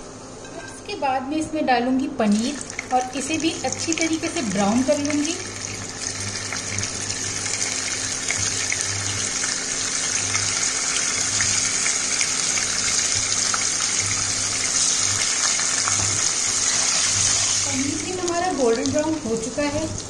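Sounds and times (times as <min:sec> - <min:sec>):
paneer sizzling in ghee: 0:02.2 - 0:20.0.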